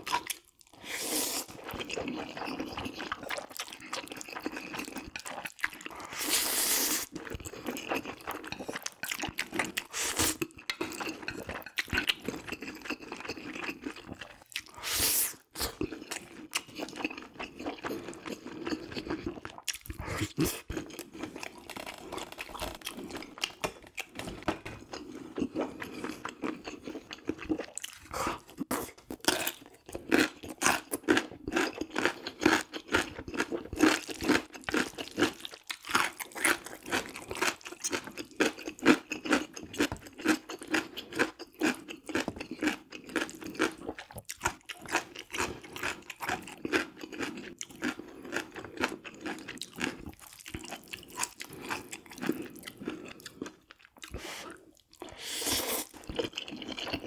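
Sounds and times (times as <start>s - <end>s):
wet chewing and mouth clicks: 0.0s - 57.0s.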